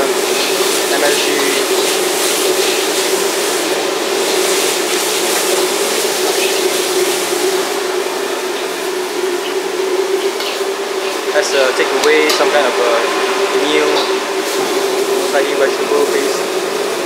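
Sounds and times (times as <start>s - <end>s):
gas wok burner roaring: 0.0s - 17.0s.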